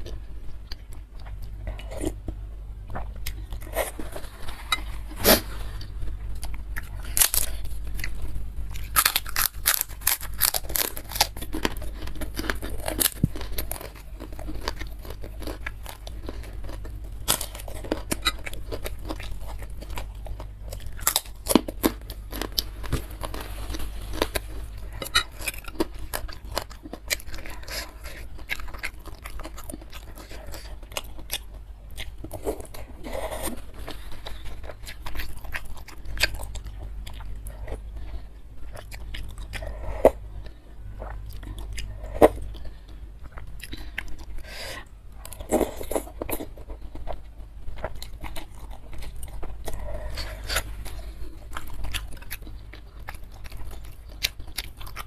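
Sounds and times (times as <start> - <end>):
chewing: 0.0 - 55.0
crunching crackers: 0.0 - 55.0.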